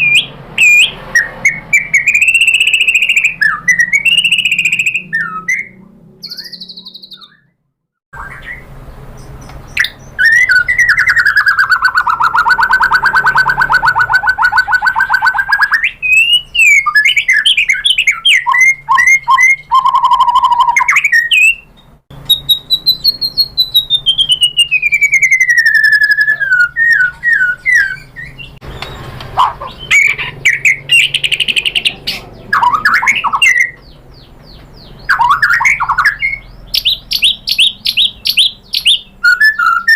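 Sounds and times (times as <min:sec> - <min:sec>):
songbird singing: 0:00.0 - 0:07.6, 0:08.2 - 0:39.9.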